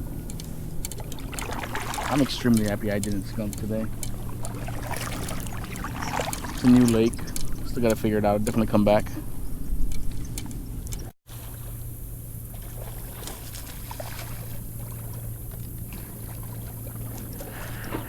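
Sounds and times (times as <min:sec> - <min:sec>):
steady low hum: 0:00.0 - 0:18.0
water lapping and trickling: 0:00.0 - 0:18.0.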